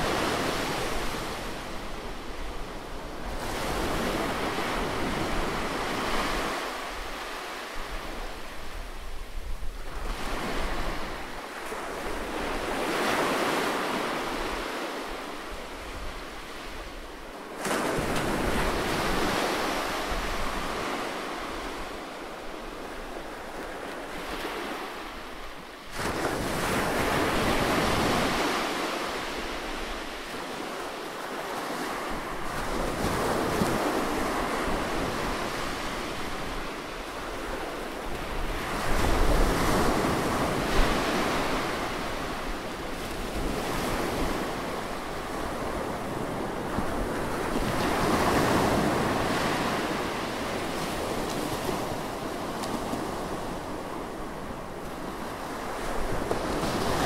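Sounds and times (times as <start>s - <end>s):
surf washing up beach: 0.0s - 57.0s.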